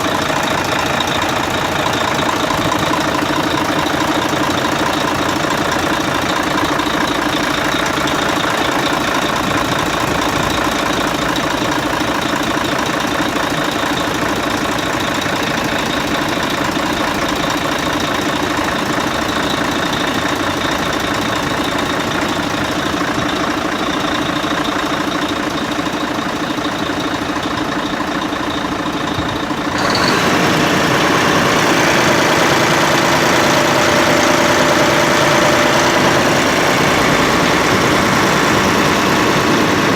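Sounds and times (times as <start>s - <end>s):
fire truck diesel engine running: 0.0s - 39.9s.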